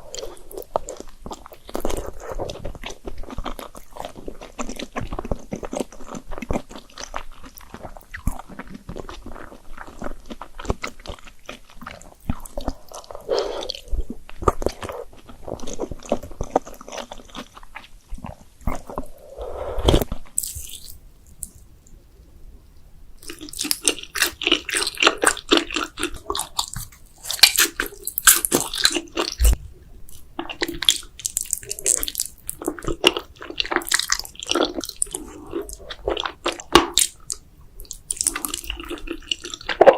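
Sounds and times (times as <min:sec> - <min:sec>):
chewing and biting noodles: 0:00.0 - 0:19.1, 0:23.2 - 0:39.9.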